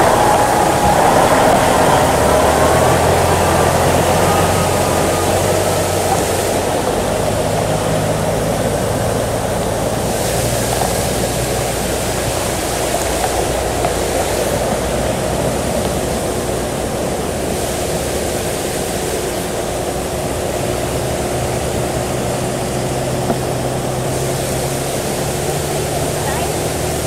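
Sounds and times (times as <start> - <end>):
floodwater rushing: 0.0 - 27.0
truck engine humming: 0.0 - 27.0.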